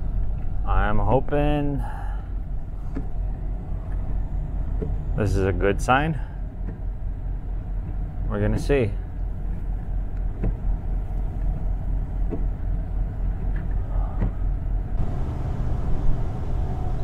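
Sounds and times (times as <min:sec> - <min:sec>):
road noise: 0:00.0 - 0:17.0
car engine rumble inside cabin: 0:01.4 - 0:17.0.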